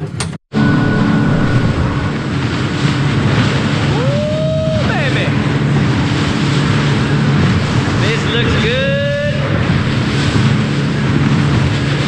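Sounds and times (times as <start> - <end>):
outboard engines running: 0.0 - 12.0
wind and water rushing: 0.5 - 12.0.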